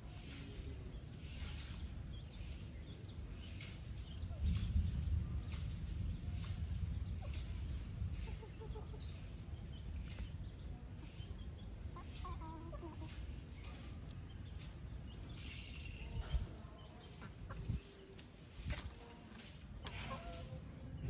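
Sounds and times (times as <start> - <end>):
chickens clucking: 0.1 - 21.0.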